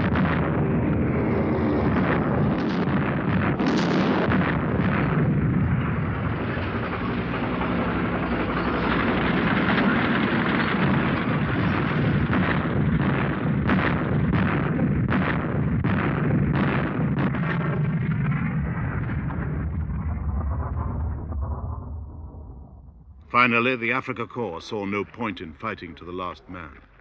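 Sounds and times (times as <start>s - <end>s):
artillery fire and explosions: 0.0s - 27.0s
rumble of battle: 0.0s - 27.0s.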